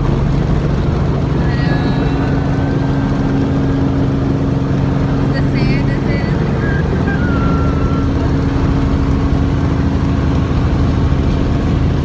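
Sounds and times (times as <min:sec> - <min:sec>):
helicopter running: 0:00.0 - 0:12.0.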